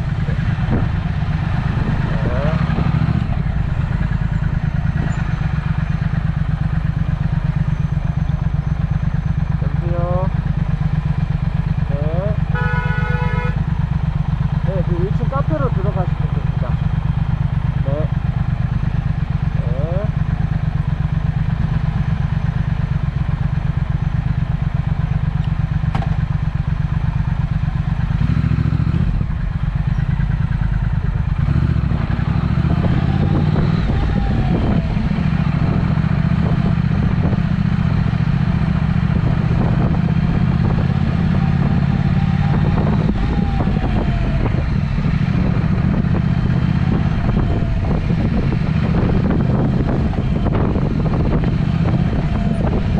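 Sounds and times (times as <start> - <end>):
motorcycle engine pulsing: 0.0 - 52.9.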